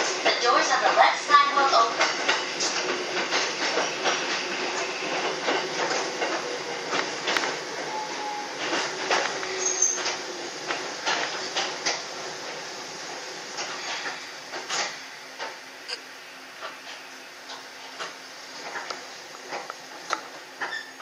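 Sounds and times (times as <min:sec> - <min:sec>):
electric train running hiss: 0:00.0 - 0:21.0.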